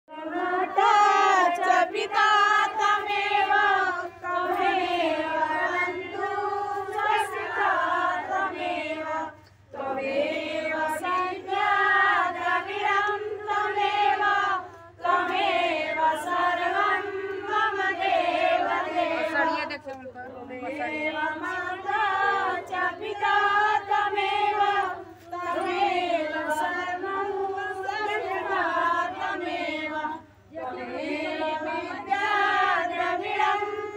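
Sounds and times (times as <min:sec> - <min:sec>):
women singing in unison: 0:00.1 - 0:33.9.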